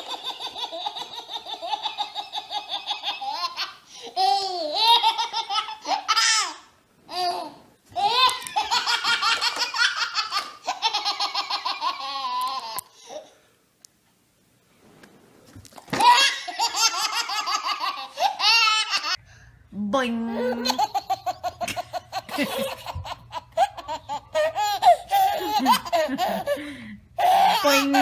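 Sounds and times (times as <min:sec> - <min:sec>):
baby laughing: 0:00.0 - 0:13.3, 0:15.9 - 0:19.2, 0:20.4 - 0:28.0.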